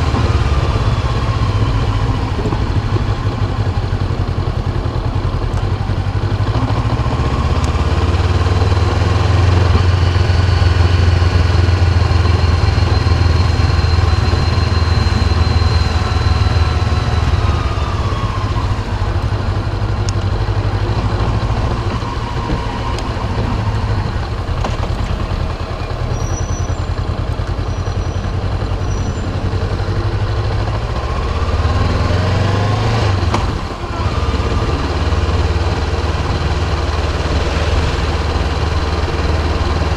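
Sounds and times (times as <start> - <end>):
motorcycle engine whine: 0.0 - 39.9.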